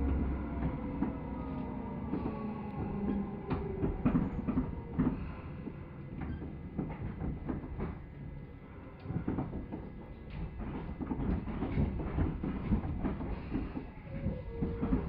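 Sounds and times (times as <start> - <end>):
train knocks and clunks: 0.0 - 15.0
train rumble: 0.0 - 15.0.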